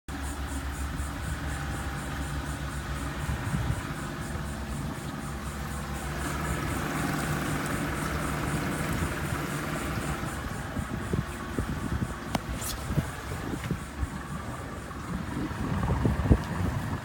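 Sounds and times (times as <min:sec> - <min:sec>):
motor humming: 0:00.1 - 0:17.0.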